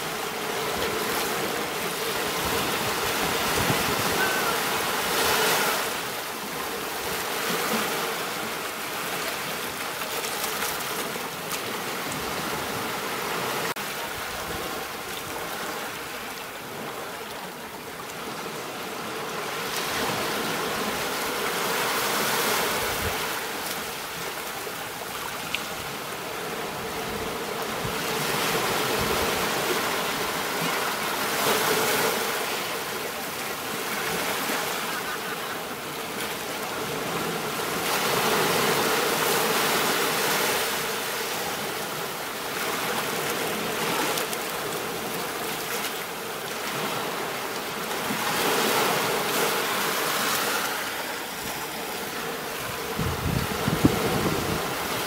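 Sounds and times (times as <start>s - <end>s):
ocean surf on sand: 0.0s - 55.0s.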